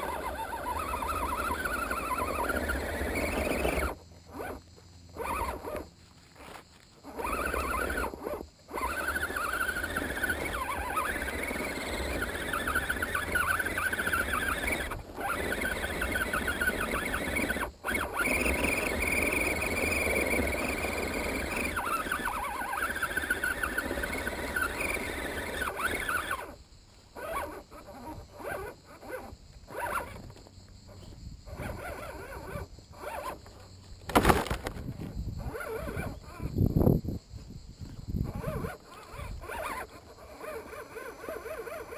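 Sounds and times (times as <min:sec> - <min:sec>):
electric motor whining: 0:00.0 - 0:26.6, 0:27.2 - 0:37.0, 0:38.1 - 0:41.9.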